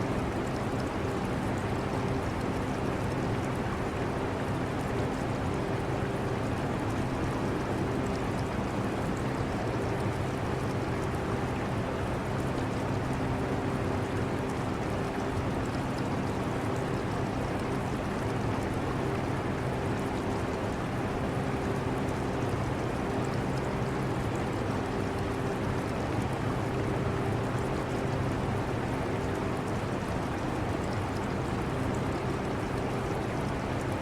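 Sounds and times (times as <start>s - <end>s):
aquarium water trickling: 0.1s - 34.0s.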